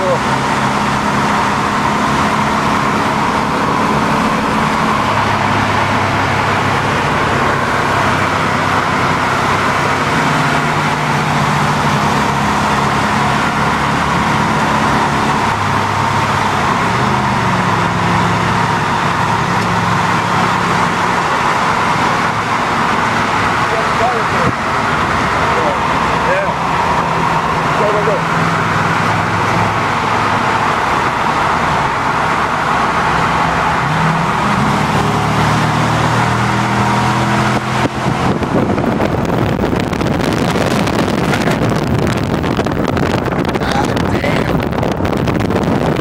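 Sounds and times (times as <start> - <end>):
low engine hum: 0.0 - 46.0
road and wind noise: 0.0 - 46.0.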